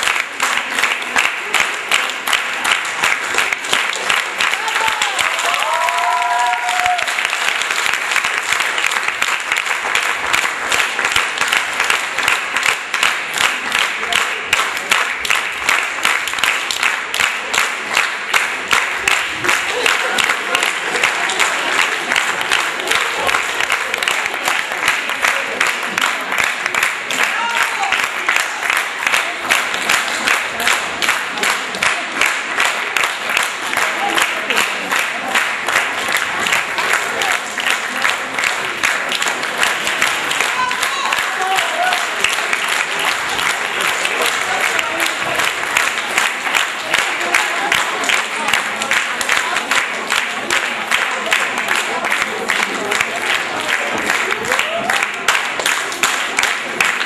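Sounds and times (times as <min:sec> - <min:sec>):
audience applauding: 0:00.0 - 0:57.0
rhythmic clapping: 0:00.0 - 0:57.0.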